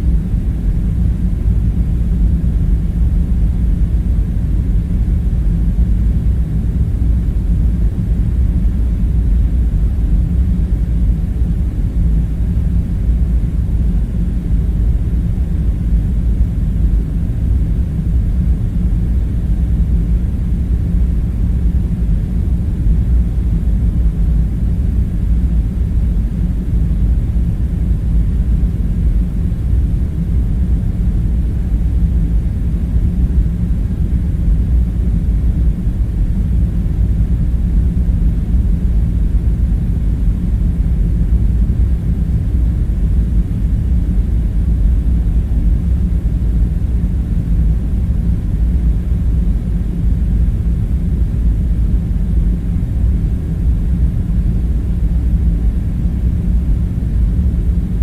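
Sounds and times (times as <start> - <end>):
faint hum: 0.0 - 58.0
low rumbling drone: 0.0 - 58.0.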